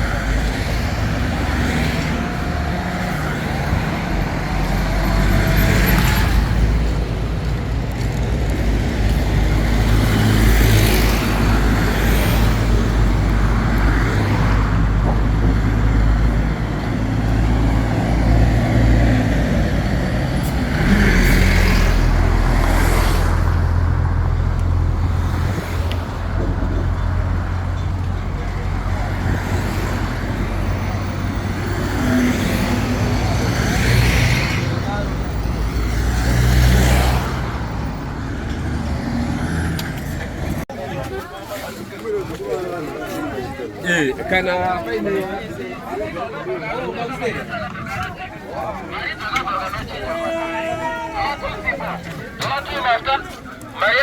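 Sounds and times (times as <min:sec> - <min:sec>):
vehicle engines rumbling: 0:00.0 - 0:54.0
vehicles passing by: 0:00.0 - 0:54.0.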